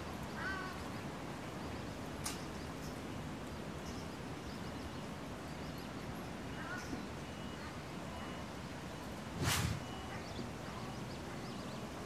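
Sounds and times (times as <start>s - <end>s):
bird chirp: 0.0s - 12.0s.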